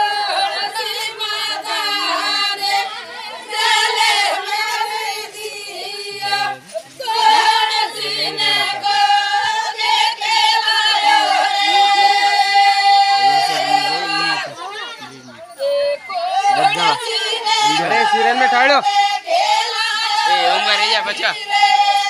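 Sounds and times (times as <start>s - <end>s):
women singing in chorus: 0.0s - 14.7s, 15.5s - 22.0s.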